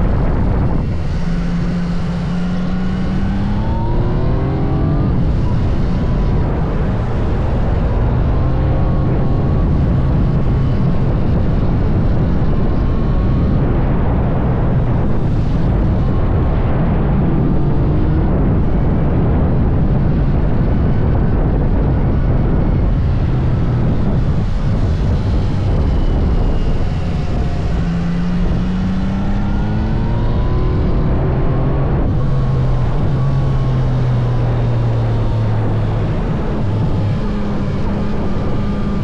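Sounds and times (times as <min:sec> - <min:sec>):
motorcycle engine revving: 0:00.0 - 0:39.0
wind noise: 0:00.0 - 0:39.0.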